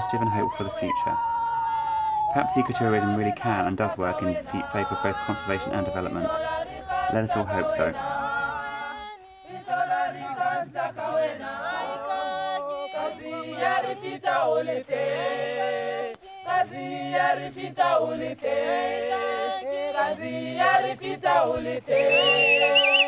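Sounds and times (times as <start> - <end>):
a cappella choir singing: 0.0 - 23.0.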